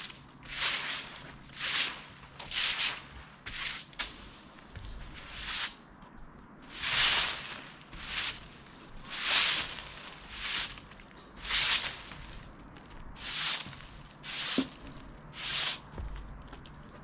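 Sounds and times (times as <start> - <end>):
broom sweeping dry leaves: 0.0 - 5.8, 6.6 - 12.5, 13.1 - 16.0.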